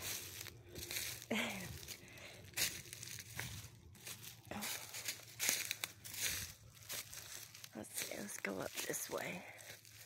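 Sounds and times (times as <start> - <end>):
footsteps crunching through leaves: 0.0 - 10.0.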